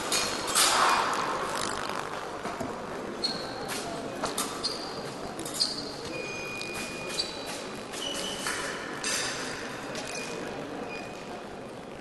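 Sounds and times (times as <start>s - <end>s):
low hall murmur: 0.0s - 12.0s.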